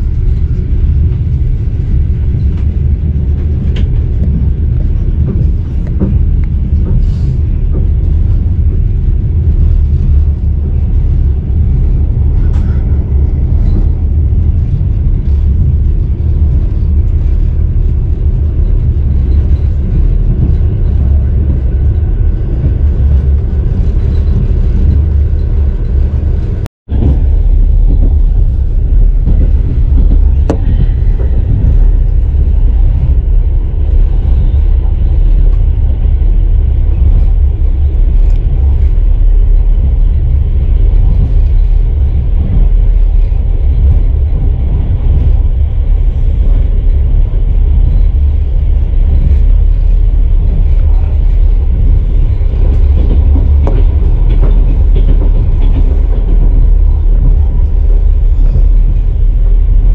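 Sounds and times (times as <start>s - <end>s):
passenger train rumbling: 0.0s - 59.9s.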